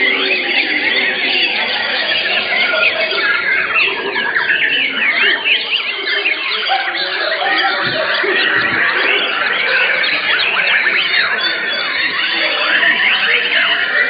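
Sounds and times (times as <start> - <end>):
many songbirds singing: 0.0 - 14.0.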